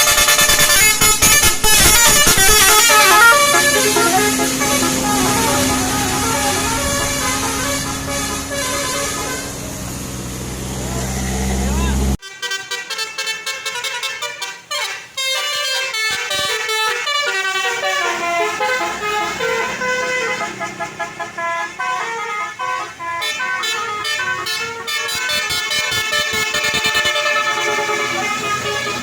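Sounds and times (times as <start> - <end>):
bus musical horn playing a tune: 0.0 - 29.0.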